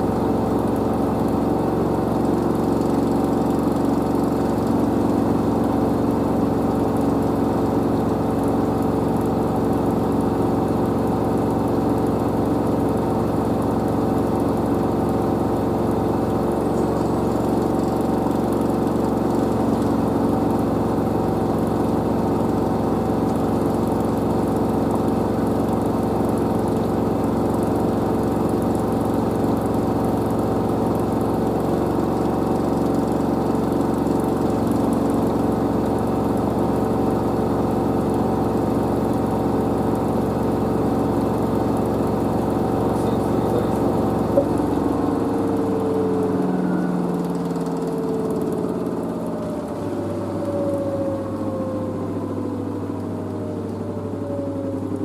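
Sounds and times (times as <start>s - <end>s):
washer drum spinning with motor whine: 0.0s - 55.0s.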